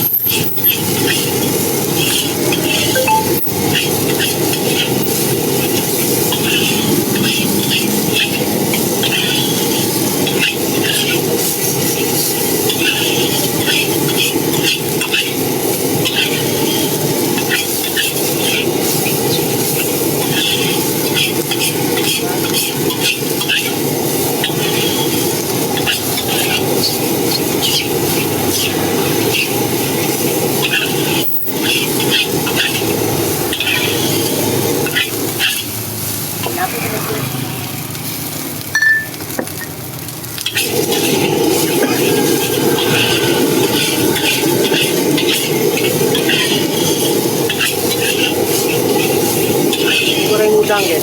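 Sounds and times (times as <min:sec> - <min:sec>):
food sizzling in wok: 0:00.0 - 0:51.0
gas burner roar: 0:00.0 - 0:51.0
metal spatula scraping wok: 0:00.2 - 0:38.4, 0:40.4 - 0:51.0.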